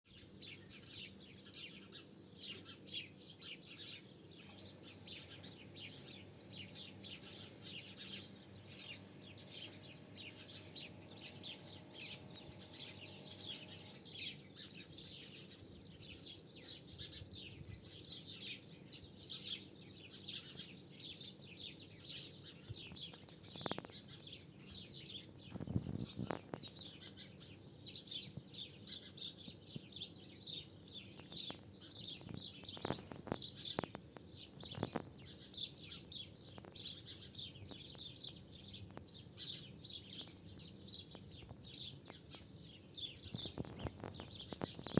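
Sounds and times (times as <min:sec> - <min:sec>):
birds chirping: 0:00.1 - 0:44.9.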